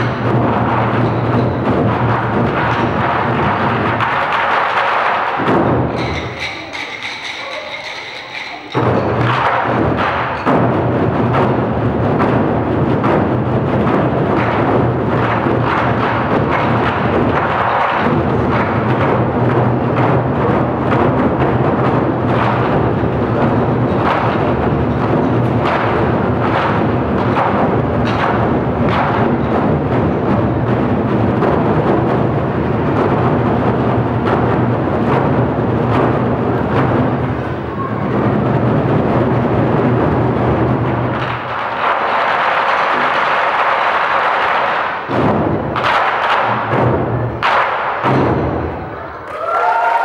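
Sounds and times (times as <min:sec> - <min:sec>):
drum ensemble drumming: 0:00.0 - 0:50.0.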